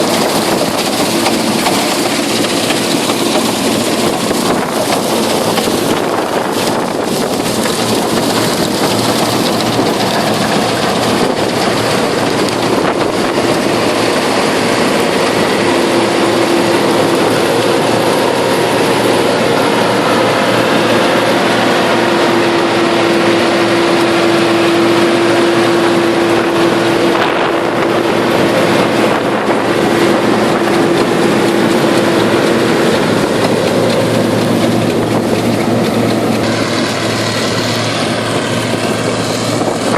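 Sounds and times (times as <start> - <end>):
combine harvester running: 0.0 - 39.9
steady machine whine: 0.0 - 39.9.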